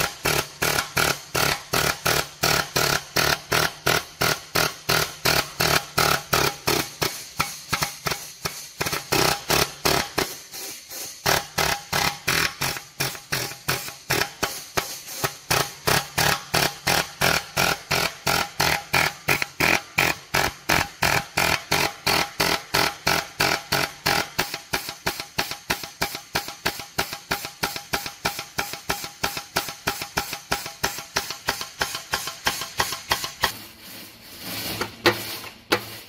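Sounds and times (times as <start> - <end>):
music with quick percussive beat: 4.1 - 33.6.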